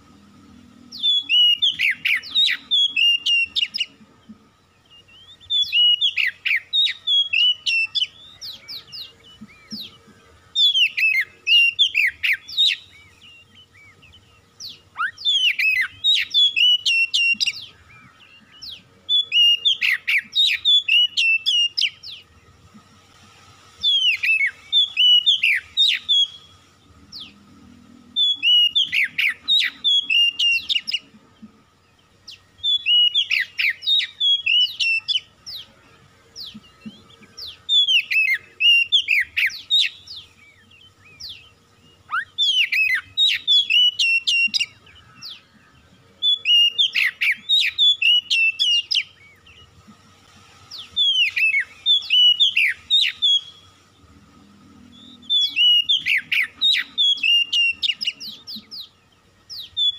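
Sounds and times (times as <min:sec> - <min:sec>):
bird singing whistled notes: 0:00.1 - 0:22.6, 0:23.8 - 0:49.8, 0:50.7 - 0:59.9.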